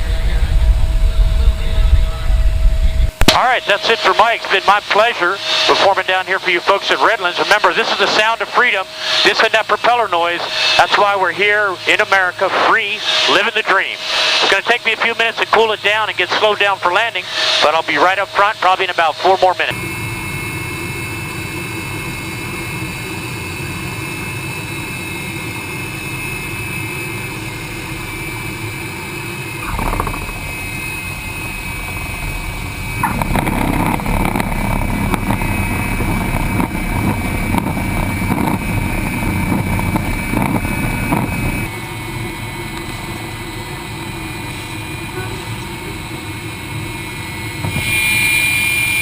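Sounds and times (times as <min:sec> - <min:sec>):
jet engine whine: 0:00.0 - 0:49.0.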